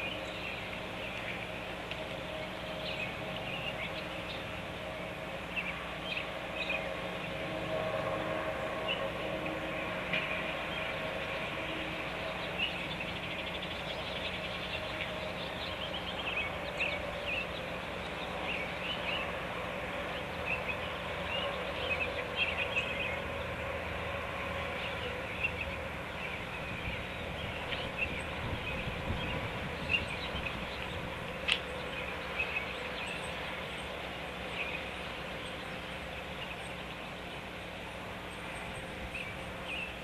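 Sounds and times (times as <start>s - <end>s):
steady background hum: 0.0s - 40.0s.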